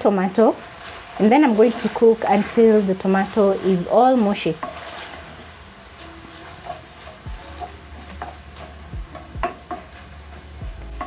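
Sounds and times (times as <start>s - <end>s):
meat and tomato sizzling in pan: 0.0s - 11.0s
wooden spoon scraping a pan: 0.2s - 11.0s.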